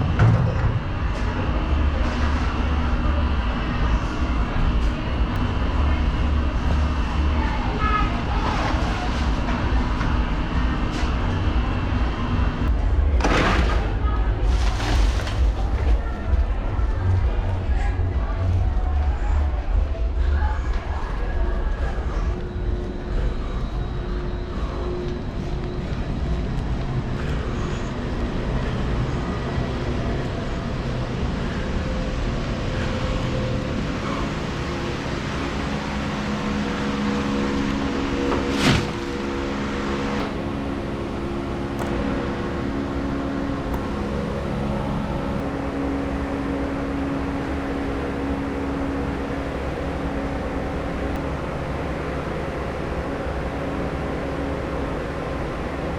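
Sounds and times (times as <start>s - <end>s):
low hum: 0.0s - 55.9s
steady machine noise: 0.0s - 55.9s.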